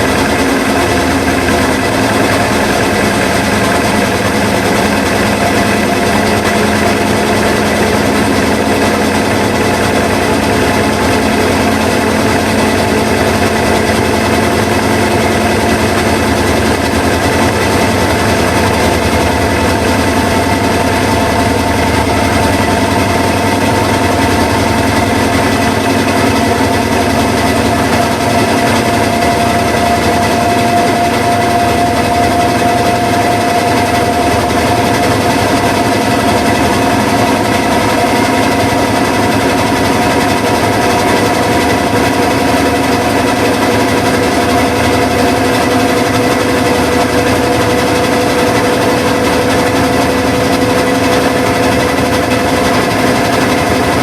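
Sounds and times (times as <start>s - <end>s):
washing machine running: 0.0s - 54.0s.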